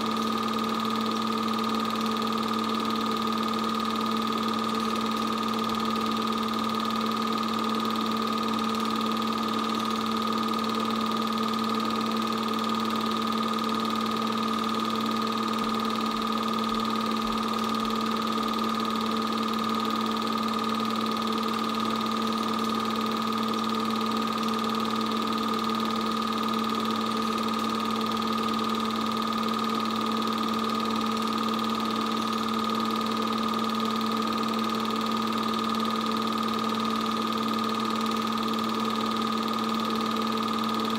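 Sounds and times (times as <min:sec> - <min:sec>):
film projector whirring hum: 0:00.0 - 0:40.9.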